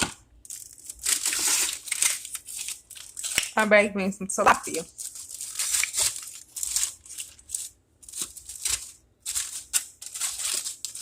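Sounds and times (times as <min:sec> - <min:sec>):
foil crinkling and rustling: 0:00.0 - 0:03.6, 0:04.7 - 0:11.0.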